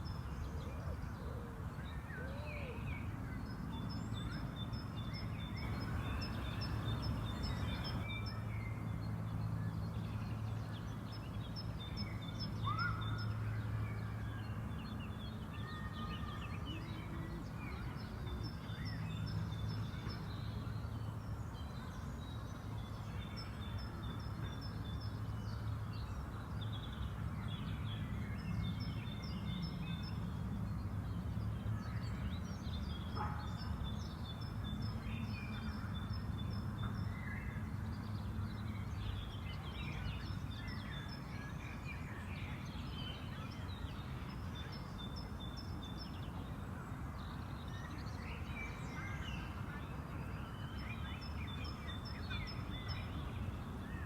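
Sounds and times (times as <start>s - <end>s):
birds singing: 0.0s - 30.2s, 31.1s - 54.0s.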